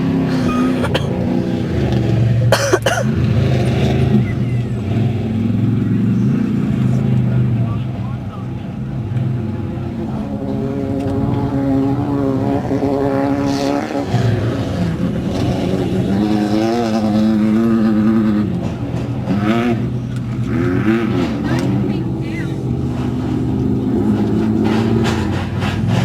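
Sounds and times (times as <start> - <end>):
buggy engines revving: 0.0 - 26.0.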